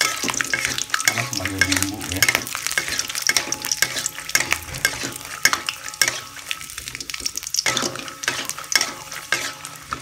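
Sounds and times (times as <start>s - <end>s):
metal spatula scraping a wok: 0.0s - 10.0s
peanuts sizzling in hot oil: 0.0s - 10.0s.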